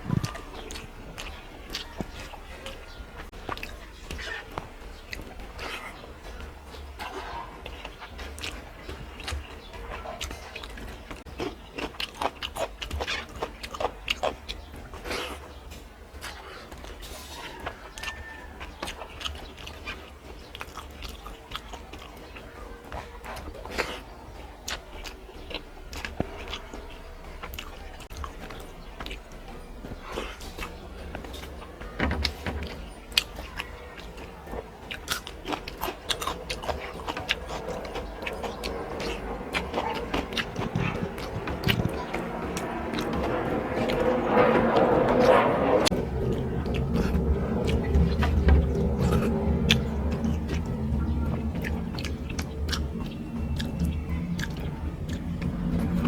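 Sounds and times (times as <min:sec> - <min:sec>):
person chewing food: 0:00.0 - 0:56.0
steady low hum: 0:00.0 - 0:56.0.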